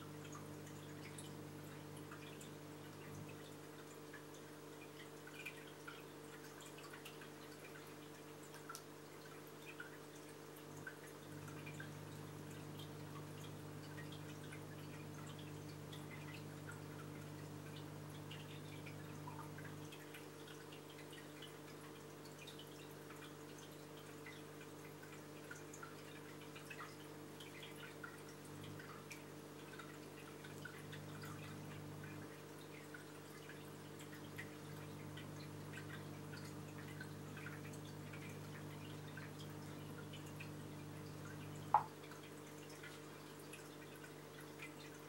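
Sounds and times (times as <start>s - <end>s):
aquarium pump hum: 0.0s - 45.0s
water dripping and trickling: 0.0s - 45.0s.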